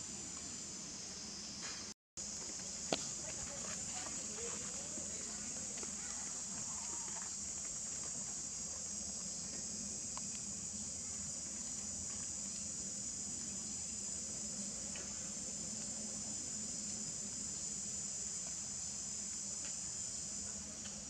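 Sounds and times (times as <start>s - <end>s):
insects trilling: 0.1s - 21.0s.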